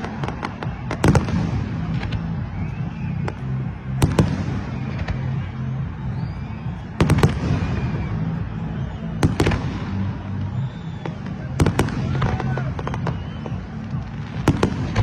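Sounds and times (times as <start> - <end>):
distant fireworks rumble and crackle: 0.0 - 15.0
fireworks bangs: 0.0 - 15.0.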